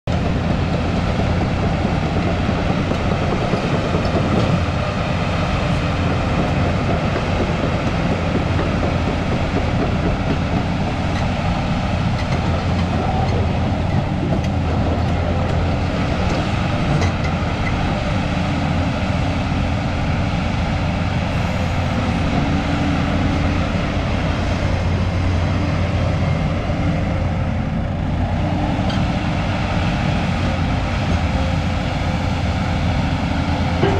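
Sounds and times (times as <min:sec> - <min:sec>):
excavator diesel engine running: 0:00.1 - 0:33.9
hydraulics working: 0:00.1 - 0:33.9.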